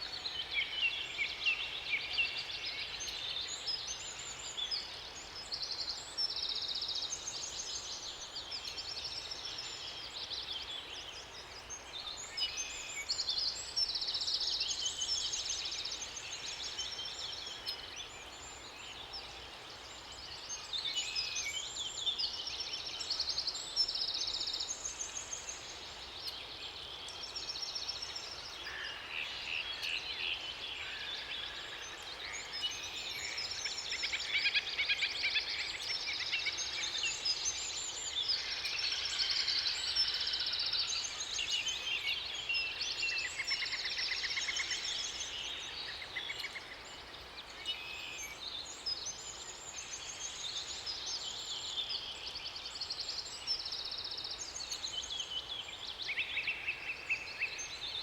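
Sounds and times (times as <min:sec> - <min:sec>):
songbirds chorus: 0:00.0 - 0:58.0.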